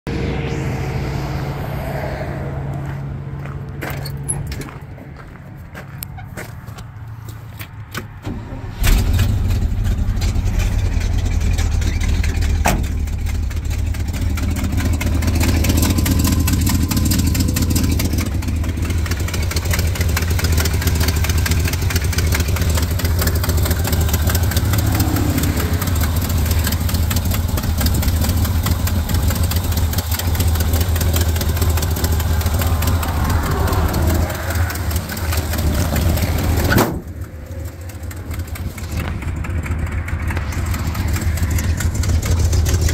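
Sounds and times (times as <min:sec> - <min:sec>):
truck engine starting and idling: 0:02.6 - 0:42.9.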